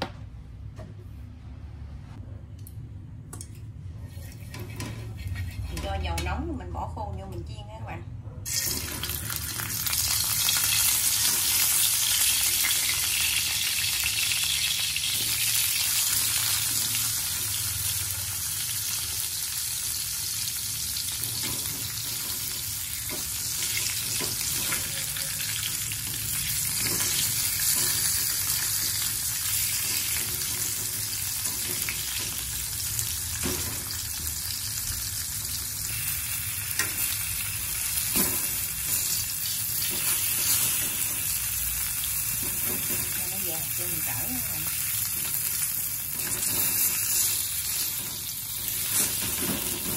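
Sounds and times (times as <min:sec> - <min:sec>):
fish sizzling in hot oil: 0:08.5 - 0:49.9.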